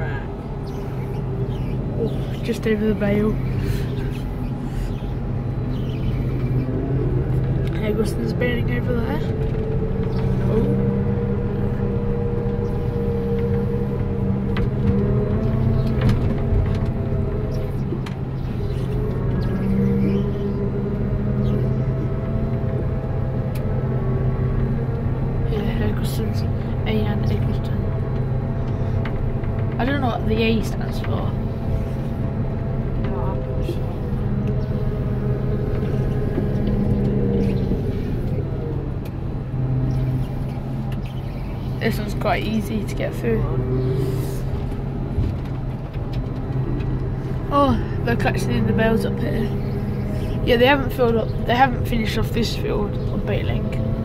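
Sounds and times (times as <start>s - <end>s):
harvester engine drone: 0.0s - 54.0s.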